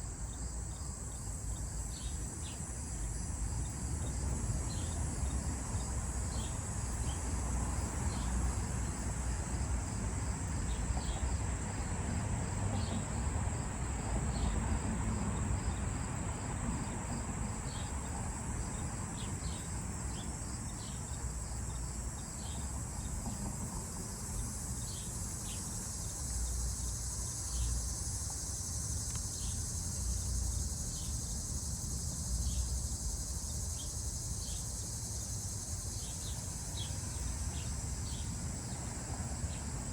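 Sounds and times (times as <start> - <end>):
crickets and insects chorus: 0.0 - 39.9.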